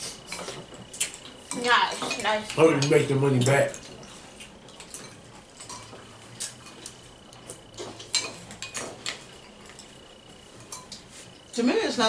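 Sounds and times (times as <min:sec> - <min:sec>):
spoons clinking against bowls: 0:00.3 - 0:04.1, 0:04.7 - 0:09.9, 0:10.5 - 0:11.1.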